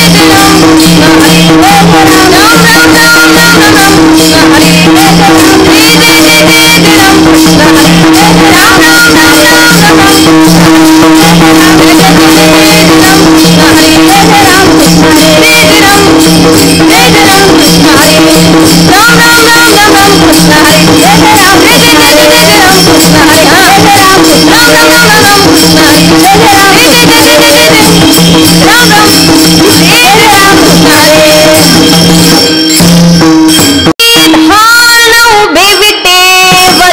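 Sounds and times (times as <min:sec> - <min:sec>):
woman singing: 0:00.0 - 0:10.4, 0:11.3 - 0:31.7, 0:34.0 - 0:36.9
percussion strokes: 0:00.0 - 0:36.9.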